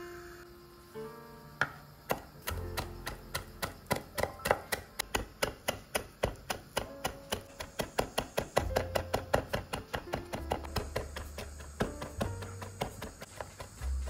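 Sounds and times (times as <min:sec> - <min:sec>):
knife chopping on wooden board: 0:01.6 - 0:14.0.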